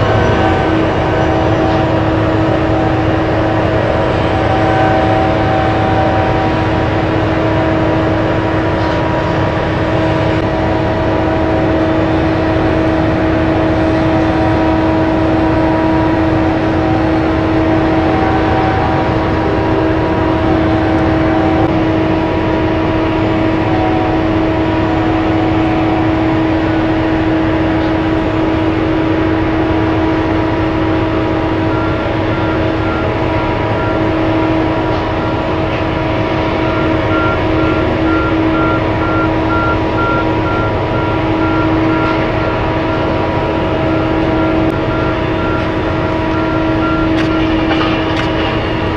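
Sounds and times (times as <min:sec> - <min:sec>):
truck engine hum and rumble: 0:00.0 - 0:48.9.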